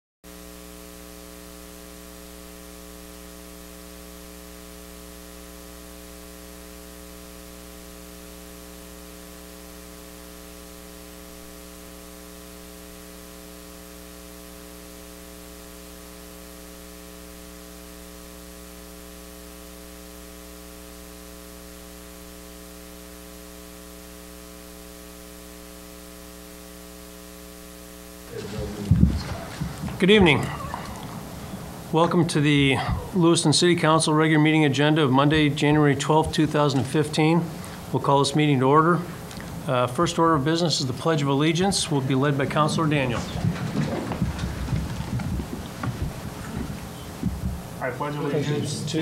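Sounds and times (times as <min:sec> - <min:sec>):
electrical mains hum: 0:00.3 - 0:49.0.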